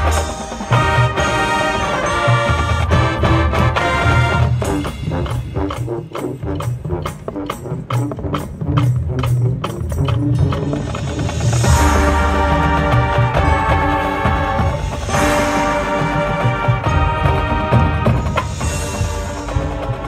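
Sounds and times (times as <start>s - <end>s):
evenly spaced percussion strikes: 0.0s - 20.0s
marching band playing: 0.0s - 20.0s.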